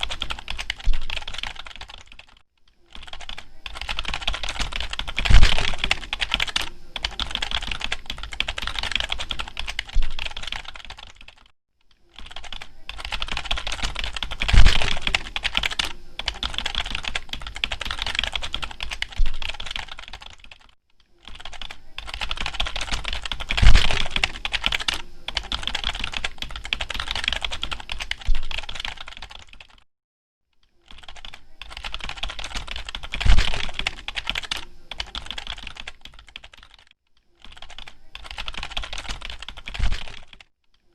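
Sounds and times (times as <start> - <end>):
keyboard typing: 0.0 - 29.8, 30.8 - 40.9.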